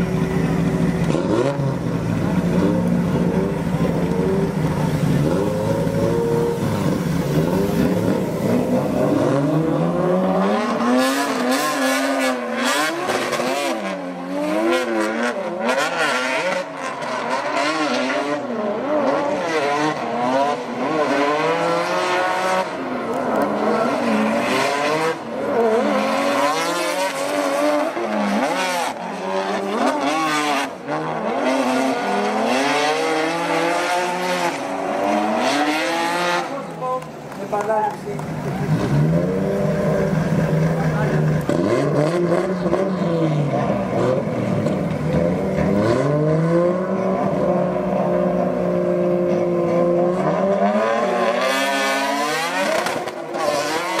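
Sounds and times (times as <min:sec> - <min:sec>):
car engines revving hard: 0:00.0 - 0:54.0.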